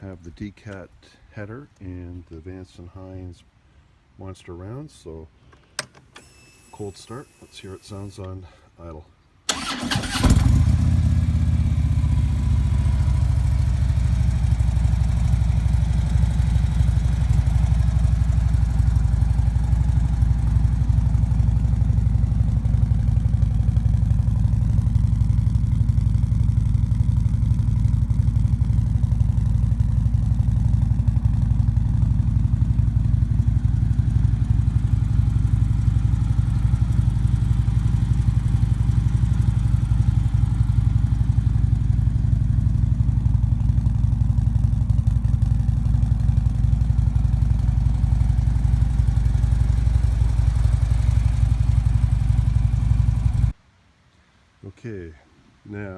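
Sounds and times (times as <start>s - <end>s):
motorcycle engine starting and idling: 5.8s - 8.3s, 9.5s - 53.6s.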